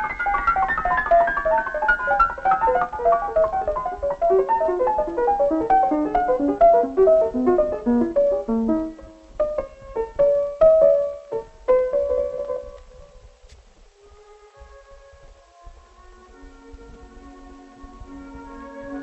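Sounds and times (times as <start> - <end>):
piano music: 0.0 - 13.4, 15.5 - 19.0.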